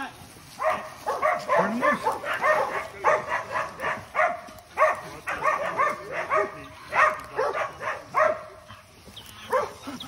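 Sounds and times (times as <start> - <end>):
dogs barking: 0.4 - 10.0.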